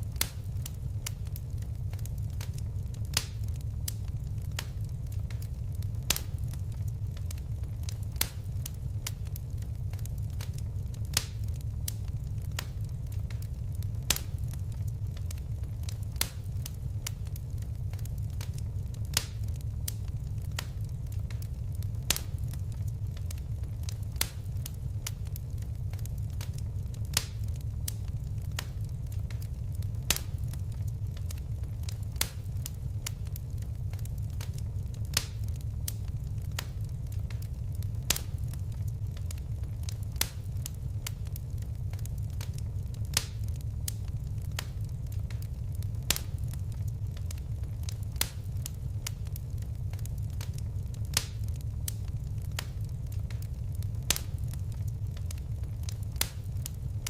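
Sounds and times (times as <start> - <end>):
fire crackling: 0.0 - 57.0
low rumble of flames: 0.0 - 57.0.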